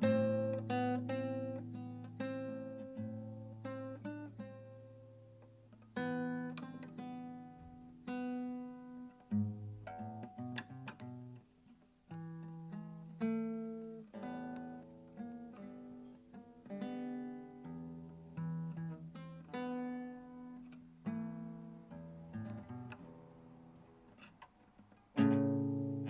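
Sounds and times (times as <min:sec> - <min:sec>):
classical guitar melody: 0:00.0 - 0:26.0.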